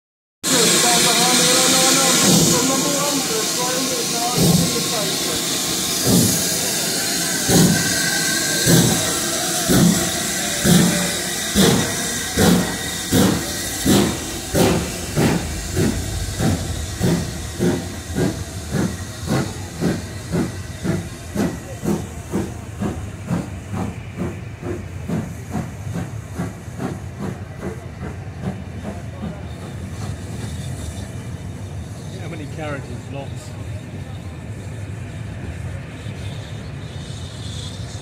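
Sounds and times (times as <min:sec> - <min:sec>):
steam hissing: 0:00.4 - 0:38.0
steam locomotive chuffing: 0:00.4 - 0:38.0.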